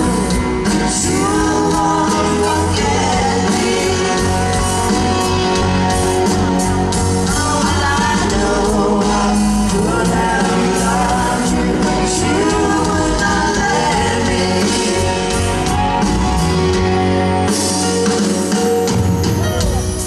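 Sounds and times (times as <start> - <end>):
woman singing lead: 0.0 - 17.0
live rock band playing: 0.0 - 20.0.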